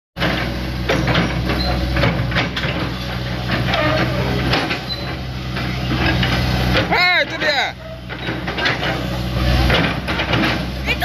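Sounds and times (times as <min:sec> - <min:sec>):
excavator diesel engine running: 0:00.2 - 0:11.0
knocks and clanks: 0:00.2 - 0:11.0.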